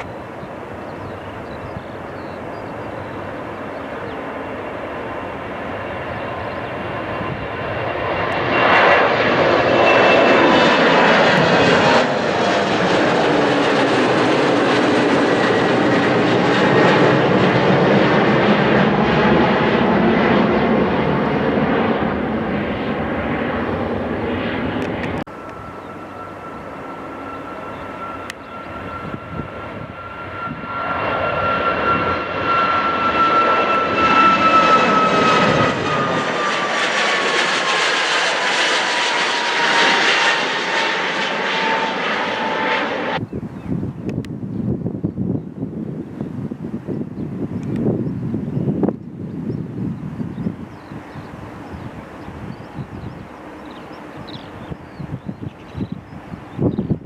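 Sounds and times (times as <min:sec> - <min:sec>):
jet airliner passing: 0:00.0 - 0:57.0.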